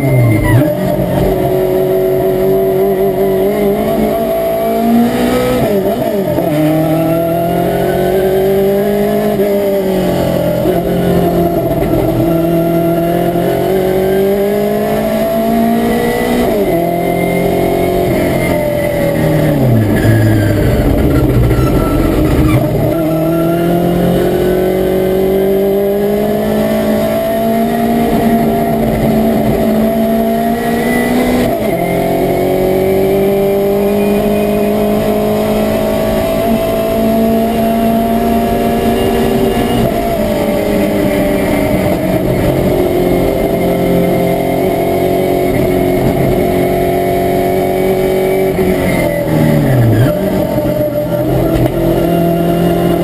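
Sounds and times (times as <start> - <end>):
race car engine at full throttle: 0.0 - 53.0.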